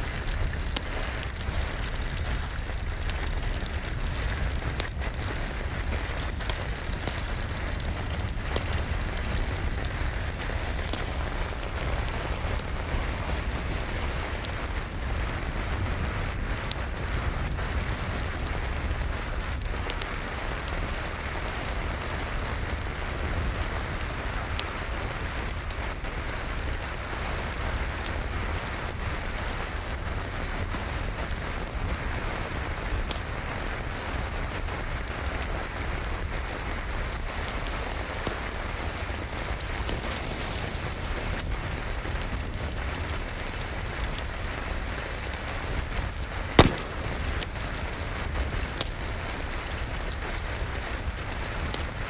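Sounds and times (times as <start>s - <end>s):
steady rain falling: 0.0s - 52.0s
wood fire crackling: 0.0s - 52.0s.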